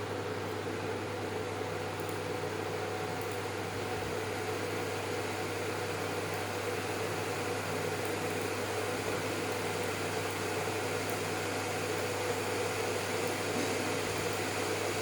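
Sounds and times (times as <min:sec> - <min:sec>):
induction stove humming: 0:00.0 - 0:15.0.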